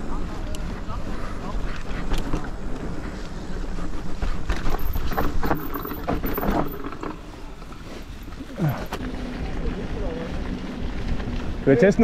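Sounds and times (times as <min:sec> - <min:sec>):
bike rattling over bumps: 0:00.0 - 0:12.0.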